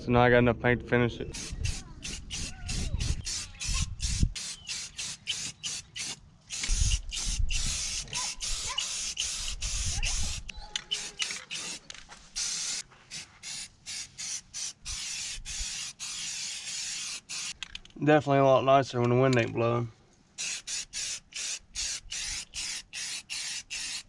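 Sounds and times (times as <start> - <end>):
aerosol spray can hissing: 1.4 - 17.6, 20.4 - 24.0.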